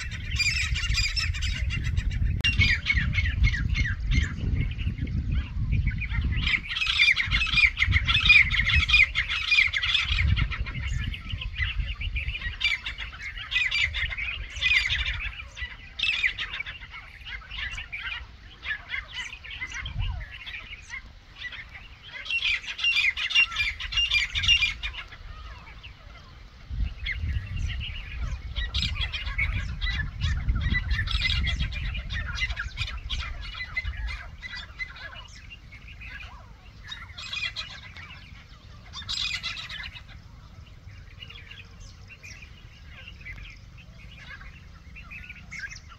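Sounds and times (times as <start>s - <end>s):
birds squawking chatter: 0.0s - 45.9s
wind rumble on microphone: 0.0s - 45.9s.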